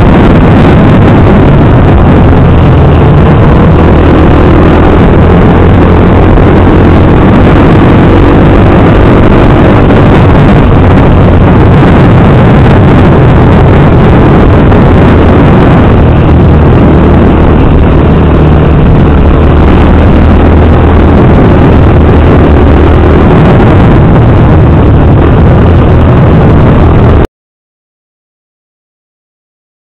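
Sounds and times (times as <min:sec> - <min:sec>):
motorcycle engine running: 0:00.0 - 0:27.2
wind rush on microphone: 0:00.0 - 0:27.3.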